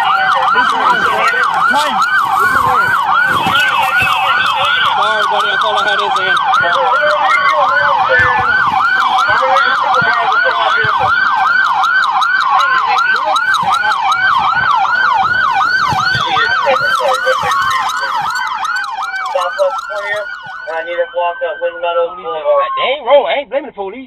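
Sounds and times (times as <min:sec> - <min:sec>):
slower siren sweeping: 0:00.0 - 0:23.0
police siren yelping: 0:00.0 - 0:23.2.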